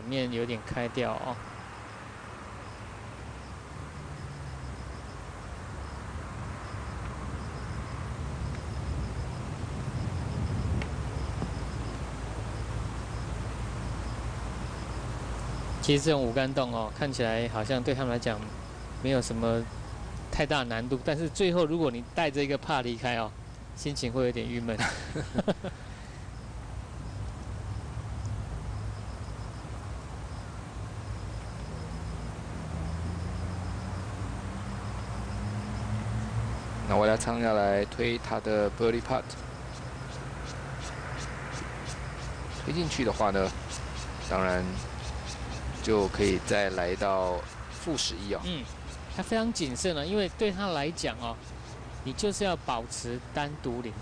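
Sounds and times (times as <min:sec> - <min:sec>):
insect chirping in rapid trills: 0:00.0 - 0:54.0
low outdoor rumble: 0:00.0 - 0:54.0.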